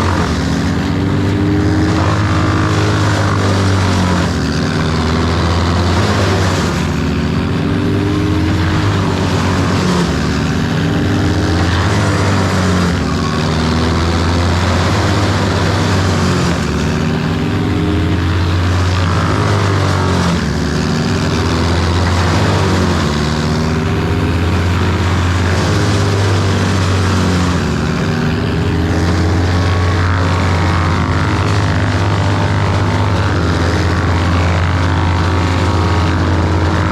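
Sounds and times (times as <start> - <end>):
large engine running: 0.0 - 36.9.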